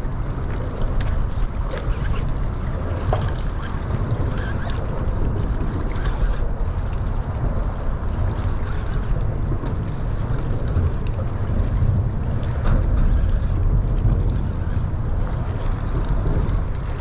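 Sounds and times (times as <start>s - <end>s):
open boat on water: 0.0s - 17.0s
wind buffeting microphone: 0.0s - 17.0s.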